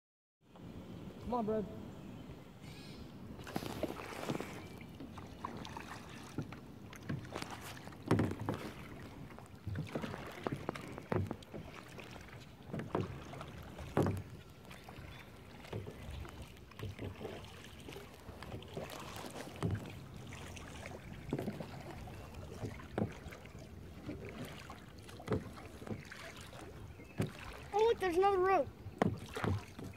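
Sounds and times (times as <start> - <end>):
paddles splashing in water: 3.2 - 29.9
water trickling: 3.5 - 29.9.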